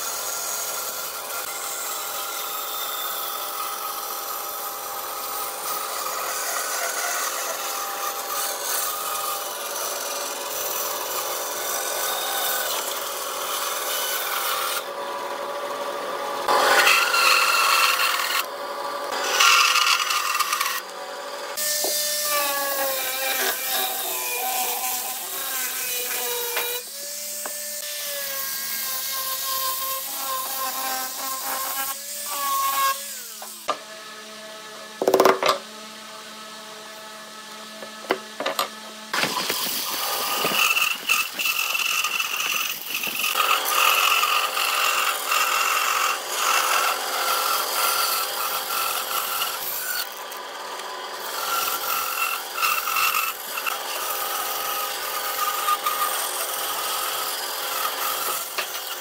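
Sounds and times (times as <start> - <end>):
bandsaw cutting wood: 0.0 - 59.0.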